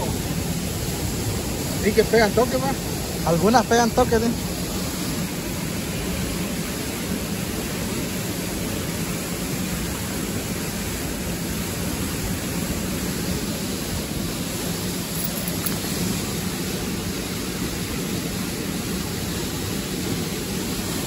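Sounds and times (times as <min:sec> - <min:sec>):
water rushing from dam outlet: 0:00.0 - 0:21.0.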